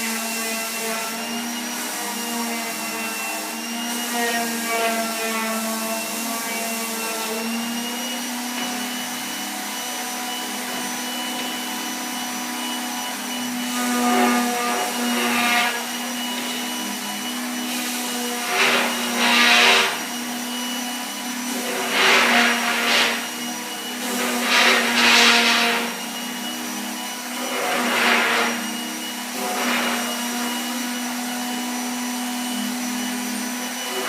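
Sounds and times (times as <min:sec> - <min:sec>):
electric sander on wood: 0:00.0 - 0:34.0.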